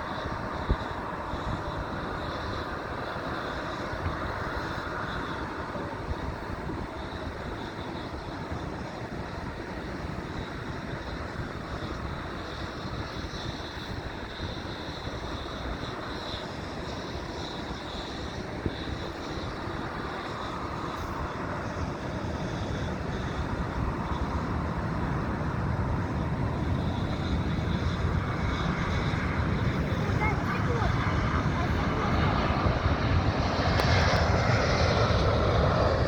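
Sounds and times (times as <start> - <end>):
aircraft engines rumbling: 0.0 - 36.0.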